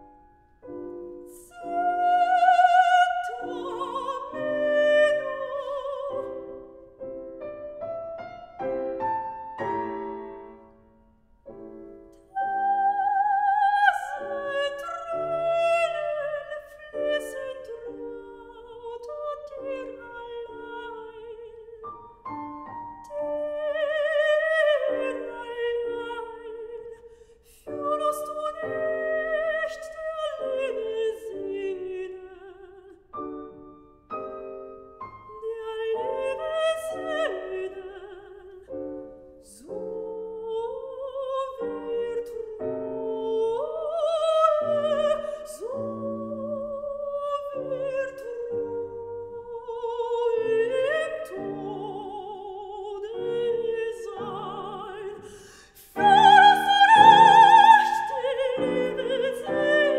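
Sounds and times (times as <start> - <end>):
soprano singing operatic aria: 0.0 - 8.1, 11.6 - 59.9
grand piano: 0.0 - 59.9.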